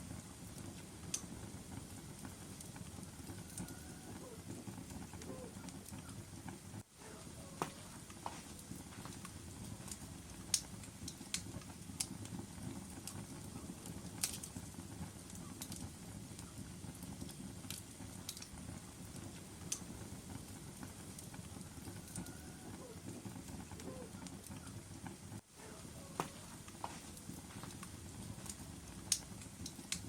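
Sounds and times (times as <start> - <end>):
sharp pops and snaps of fire: 0.0 - 30.0
wood fire crackling: 0.0 - 30.0.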